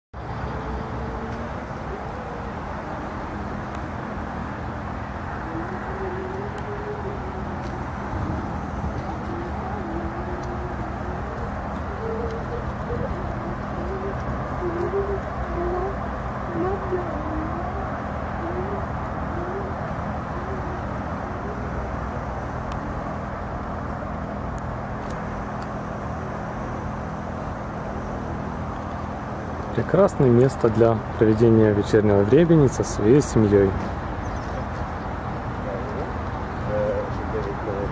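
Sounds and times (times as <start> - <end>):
road traffic rumble: 0.1 - 37.9.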